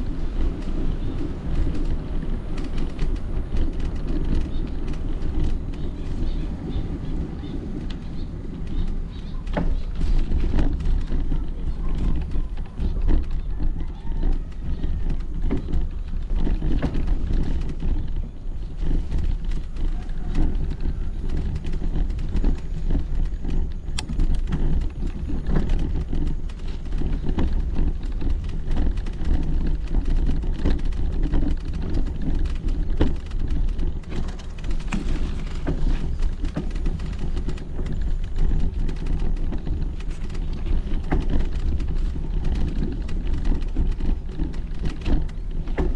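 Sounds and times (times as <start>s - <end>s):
bicycle rattles and knocks: 0.0s - 45.9s
wind rumble on microphone: 0.0s - 45.9s.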